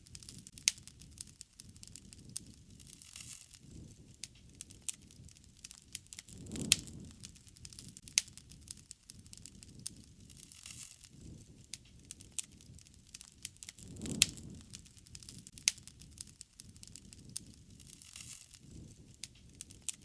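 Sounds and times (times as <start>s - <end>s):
soft rush of flames: 0.0s - 20.0s
wood fire crackling: 0.0s - 20.0s.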